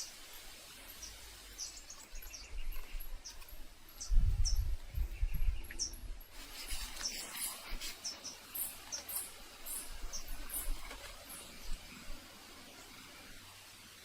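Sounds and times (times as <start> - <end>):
small birds chirping: 0.0 - 14.0
steady hiss: 0.0 - 14.0.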